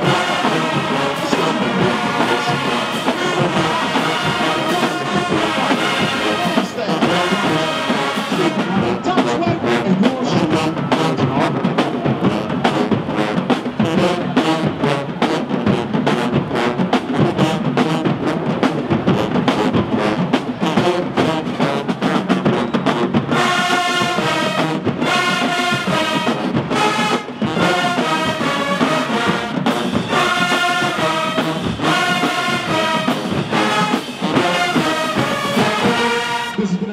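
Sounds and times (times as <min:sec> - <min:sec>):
marching band playing: 0:00.0 - 0:36.9.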